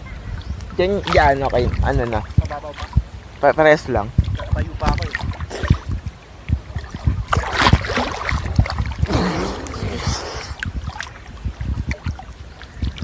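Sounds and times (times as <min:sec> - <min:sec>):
sea water splashing: 0:00.4 - 0:13.0.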